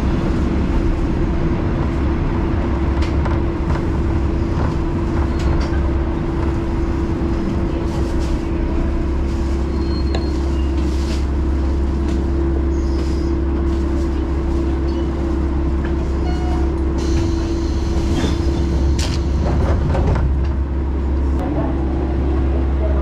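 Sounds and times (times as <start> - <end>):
diesel railcar engine humming: 0.0 - 23.0.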